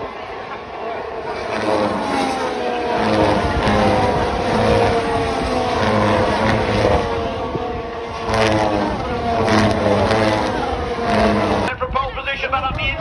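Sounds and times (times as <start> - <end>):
racing cars passing at speed: 0.0 - 11.7.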